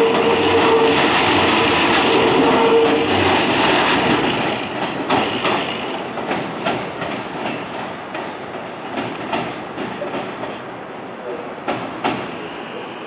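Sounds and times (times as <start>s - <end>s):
train wheels clacking over rail joints: 0.0s - 10.7s, 11.3s - 12.4s.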